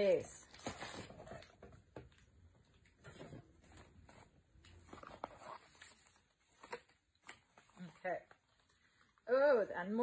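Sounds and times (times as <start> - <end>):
cardboard and paper packaging handled: 0.0 - 9.1.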